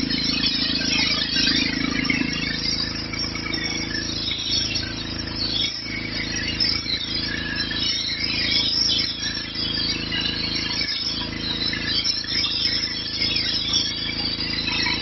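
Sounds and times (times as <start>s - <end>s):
pressure washer engine drone: 0.0s - 15.0s.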